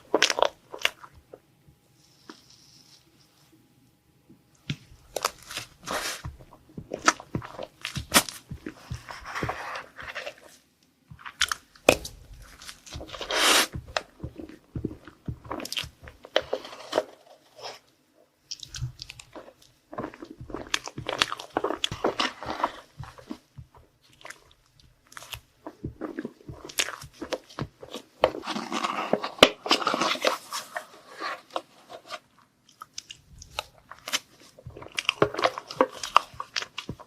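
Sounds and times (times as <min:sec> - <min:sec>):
crunchy food chewing: 0:00.0 - 0:01.4, 0:04.7 - 0:17.8, 0:18.5 - 0:30.5, 0:32.6 - 0:37.0.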